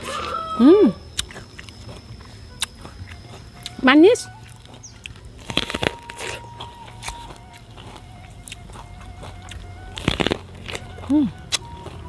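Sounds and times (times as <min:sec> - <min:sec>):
crunching corn kernels: 0:00.0 - 0:12.0.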